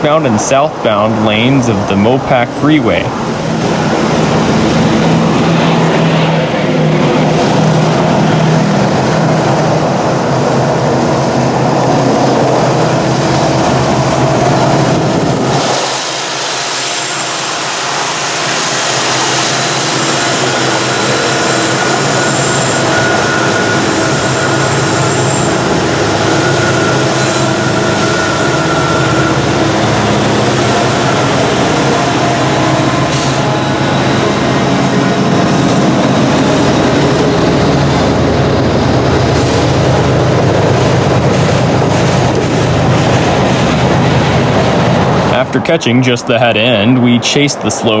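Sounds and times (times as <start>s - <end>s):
diesel locomotives working hard: 0.0s - 48.0s
freeway traffic noise: 0.0s - 48.0s.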